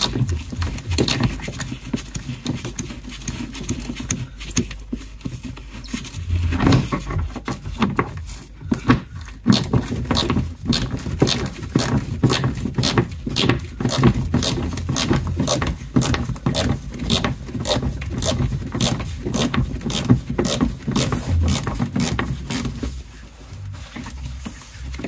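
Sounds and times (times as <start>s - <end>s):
gloved hand scraping plastic liner: 0.0s - 25.0s
low steady hum: 0.0s - 25.0s.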